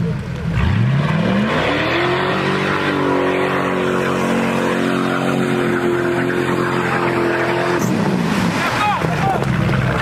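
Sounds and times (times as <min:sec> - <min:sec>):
engine at high revs: 0:00.5 - 0:08.8.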